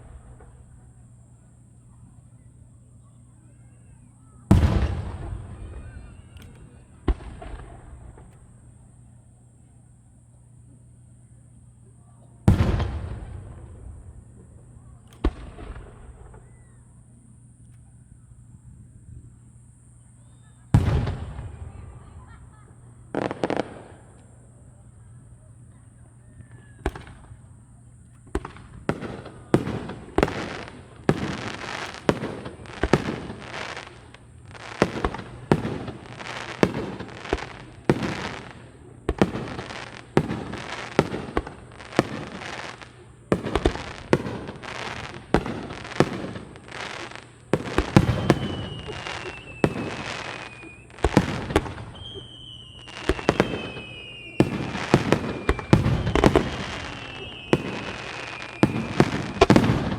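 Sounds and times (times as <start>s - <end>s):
falling whistles of fireworks: 0.0s - 59.9s
fireworks bursting with sharp bangs: 0.0s - 59.9s.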